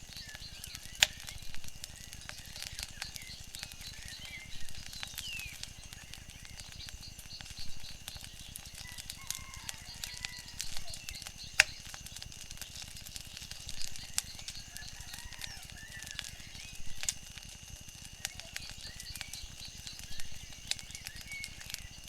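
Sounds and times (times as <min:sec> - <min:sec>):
birds chirping: 0:00.0 - 0:22.0
wood fire crackling: 0:00.0 - 0:22.0.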